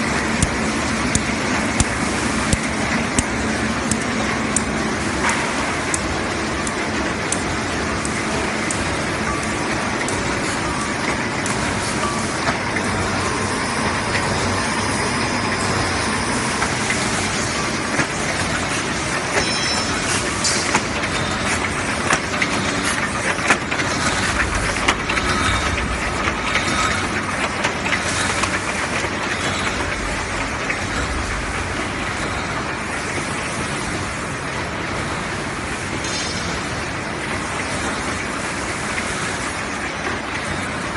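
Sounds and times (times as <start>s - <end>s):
machine mechanical clatter: 0.0s - 40.9s.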